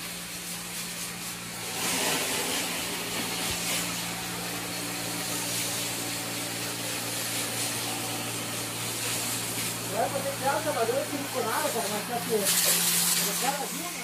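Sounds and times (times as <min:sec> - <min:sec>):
water spraying onto truck: 0:00.0 - 0:14.0.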